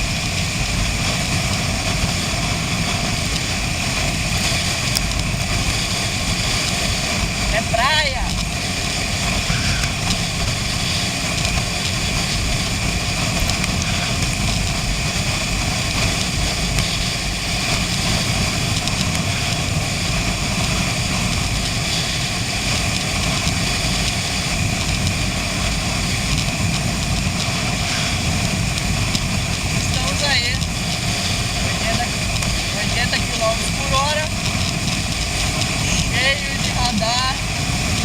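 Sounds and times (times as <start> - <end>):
motorcycle engine rumble: 0.0 - 38.0
rushing wind noise: 0.0 - 38.0.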